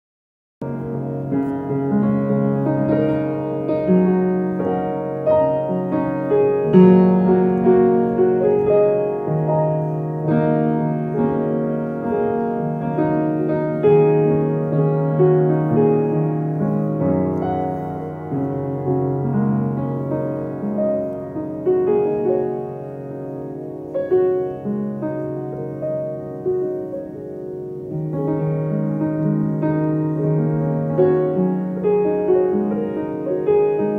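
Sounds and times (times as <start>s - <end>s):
piano music: 0.6s - 33.9s.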